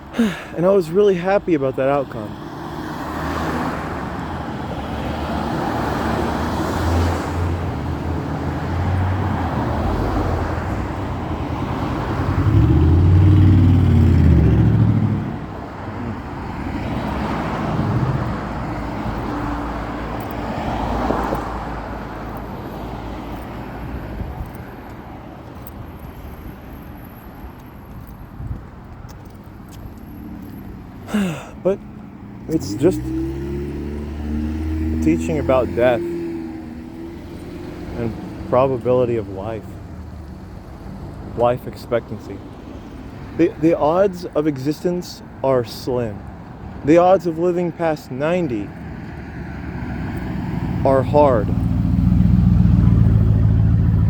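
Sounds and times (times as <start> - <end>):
cars passing: 0.0 - 54.0
louder vehicle passing: 2.4 - 24.6, 31.1 - 44.5, 45.5 - 54.0.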